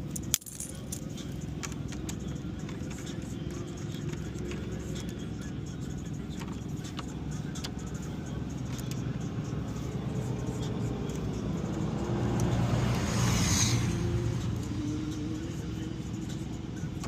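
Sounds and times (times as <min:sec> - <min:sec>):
passing vehicle engine: 0:00.0 - 0:17.0.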